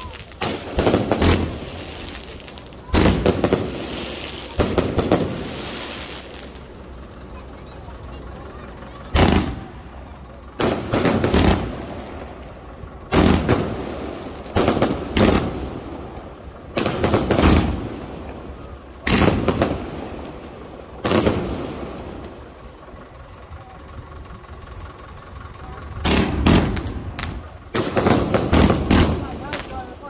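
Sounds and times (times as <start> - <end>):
fireworks bangs: 0.0 - 6.8, 9.0 - 22.5, 26.0 - 30.0.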